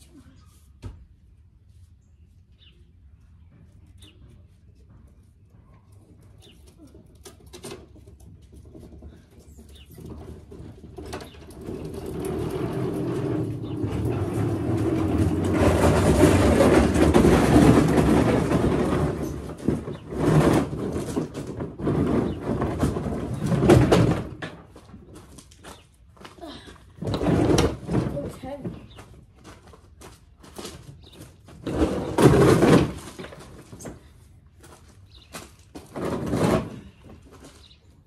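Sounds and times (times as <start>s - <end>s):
hoop scraping over gravel: 1.4s - 38.0s.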